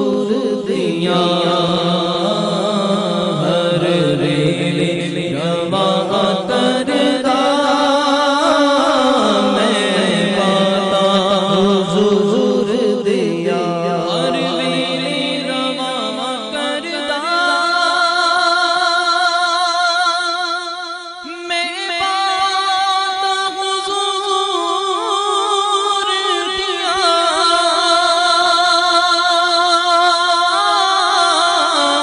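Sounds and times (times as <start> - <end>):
person singing devotional song: 0.0 - 32.0.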